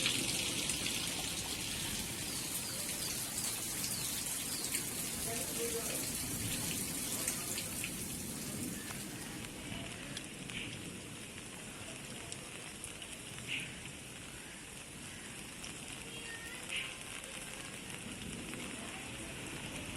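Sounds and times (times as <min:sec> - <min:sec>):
steady rain hiss: 0:00.0 - 0:19.9.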